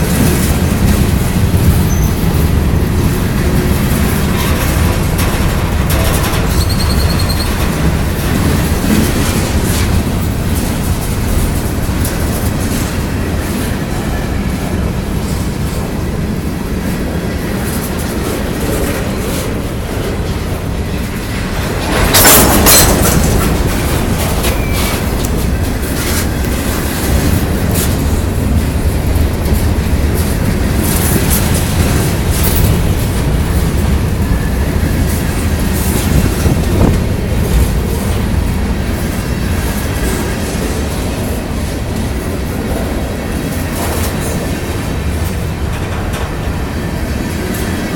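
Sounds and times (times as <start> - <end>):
freight train rumbling past: 0.0 - 47.9
wheels clacking over rail joints: 0.0 - 47.9.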